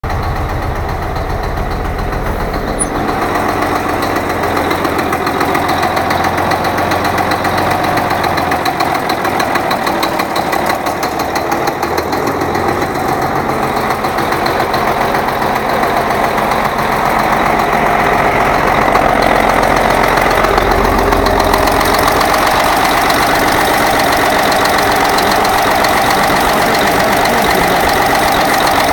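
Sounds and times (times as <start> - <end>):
tractor diesel engine idling: 0.0 - 28.9.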